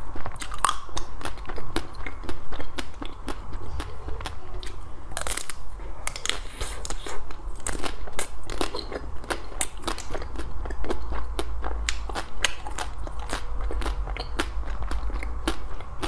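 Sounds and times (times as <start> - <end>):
crisp chewing crackles: 0.0 - 16.0.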